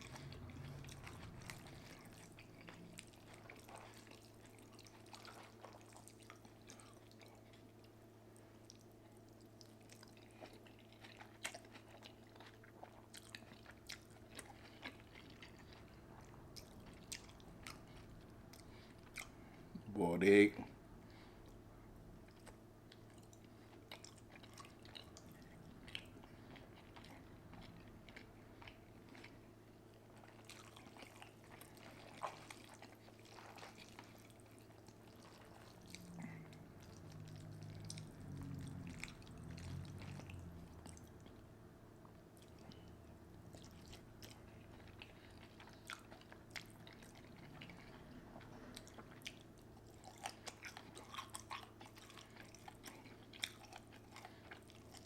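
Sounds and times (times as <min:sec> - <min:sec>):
chewing and wet mouth sounds: 0:00.0 - 0:55.0.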